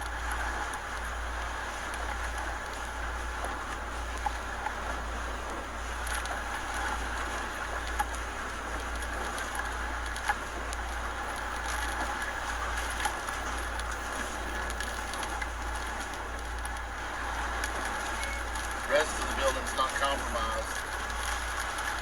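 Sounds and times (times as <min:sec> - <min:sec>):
driving rain: 0:00.0 - 0:22.0
hurricane wind rushing: 0:00.0 - 0:22.0.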